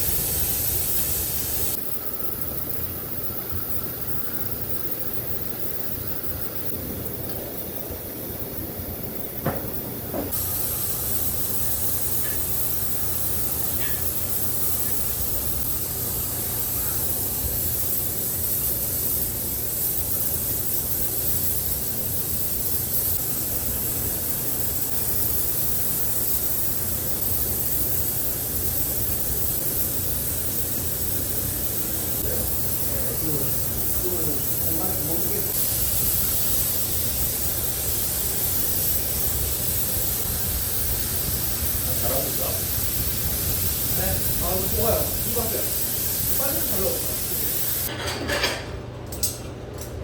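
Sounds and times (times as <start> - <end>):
welding torch flame hissing: 0.0 - 48.0.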